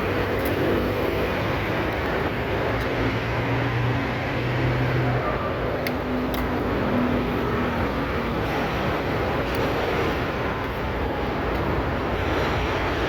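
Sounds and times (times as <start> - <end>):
engine and road noise rumble: 0.0 - 13.0.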